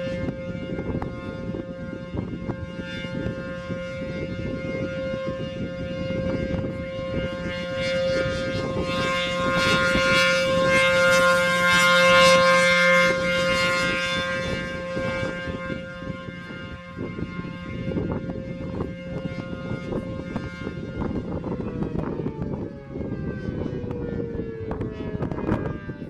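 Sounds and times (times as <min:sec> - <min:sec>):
rotating siren alert tone: 0:00.0 - 0:26.0
wind rumbling on microphone: 0:00.0 - 0:26.0.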